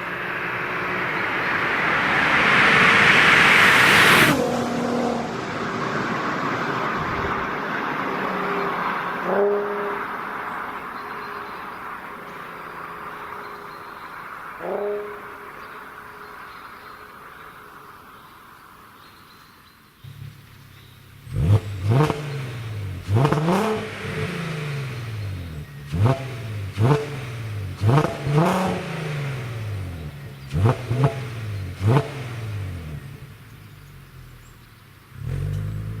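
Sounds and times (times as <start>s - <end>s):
car engine revving: 0.0s - 18.7s, 20.1s - 36.0s.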